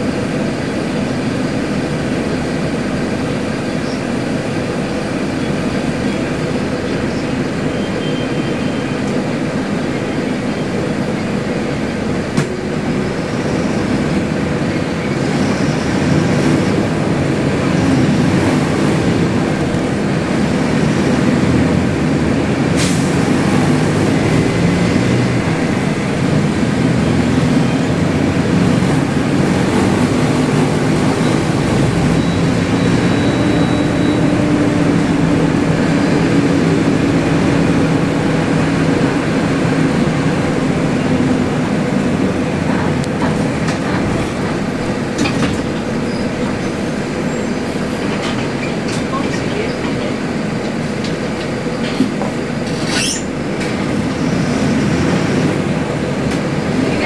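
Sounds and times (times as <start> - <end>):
bus engine running loud: 0.0 - 57.0.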